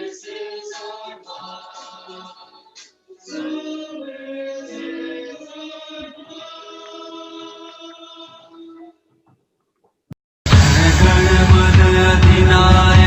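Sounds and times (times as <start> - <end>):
person singing: 0.0 - 8.9, 10.5 - 13.0.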